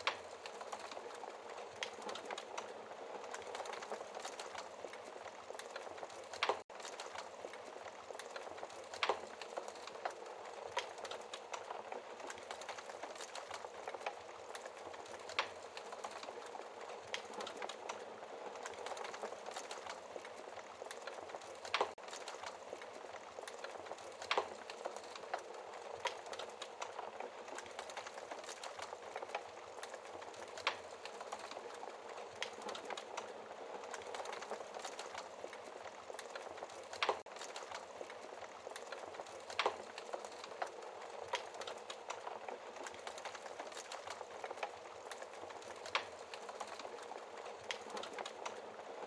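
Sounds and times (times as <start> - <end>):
logs crackling and popping: 0.0 - 49.0.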